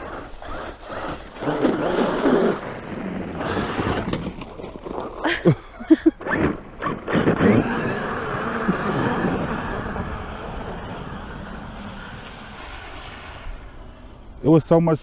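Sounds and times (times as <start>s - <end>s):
rc truck motor and flung snow: 0.0s - 14.7s.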